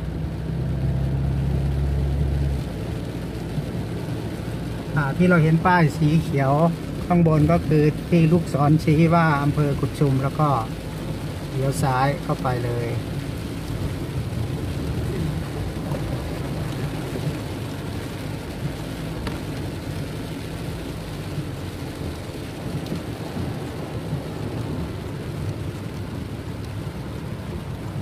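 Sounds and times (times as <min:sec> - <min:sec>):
rain on windscreen and bodywork: 0:00.0 - 0:28.0
tyres on wet road: 0:00.0 - 0:28.0.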